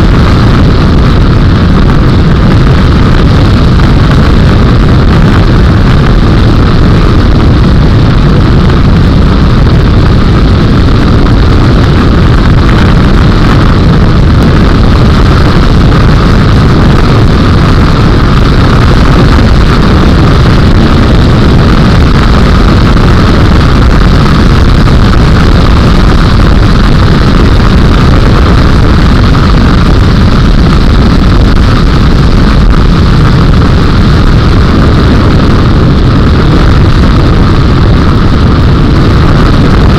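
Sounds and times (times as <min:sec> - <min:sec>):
airplane engine and propeller drone: 0:00.0 - 0:39.9
rushing air: 0:00.0 - 0:39.9.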